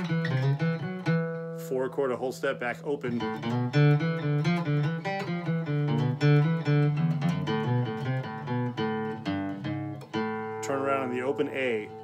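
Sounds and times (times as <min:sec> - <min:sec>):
guitar playing blues riff: 0:00.0 - 0:12.0.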